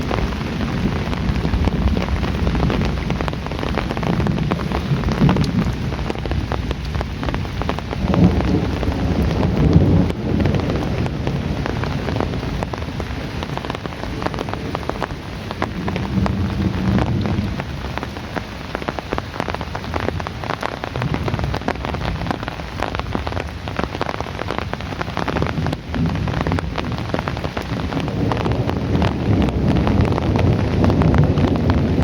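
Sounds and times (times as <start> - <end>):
distant thunder rumbling: 0.0 - 32.0
heavy rain on hard surface: 0.0 - 32.0.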